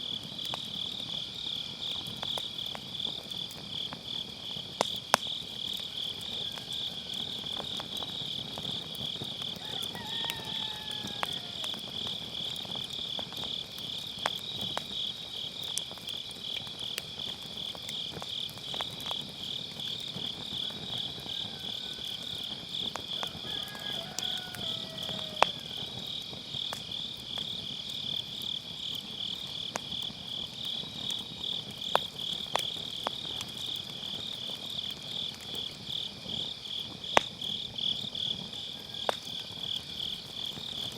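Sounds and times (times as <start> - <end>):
crickets chirping: 0.0 - 40.9
wood fire popping and crackling: 0.0 - 40.9.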